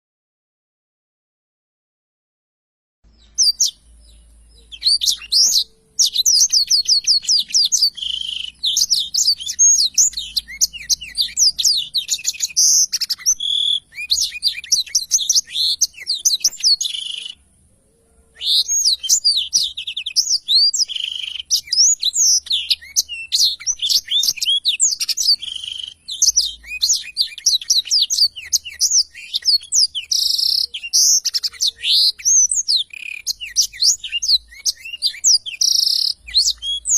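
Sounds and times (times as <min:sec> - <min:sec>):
canary singing: 0:03.1 - 0:36.9.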